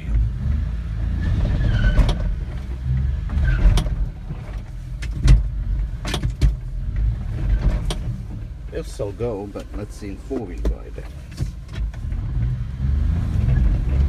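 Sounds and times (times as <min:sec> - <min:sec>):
truck knocks and rattles: 0:00.0 - 0:12.6.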